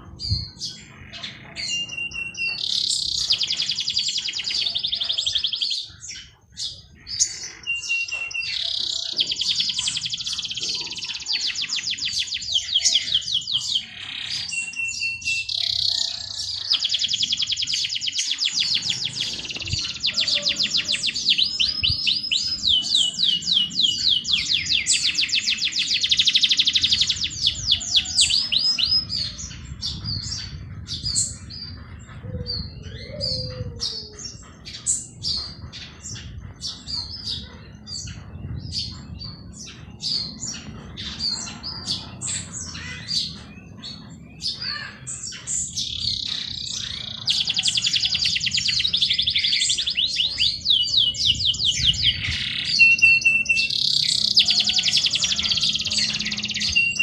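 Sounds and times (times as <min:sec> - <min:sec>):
songbird trilling: 0:00.0 - 0:57.0.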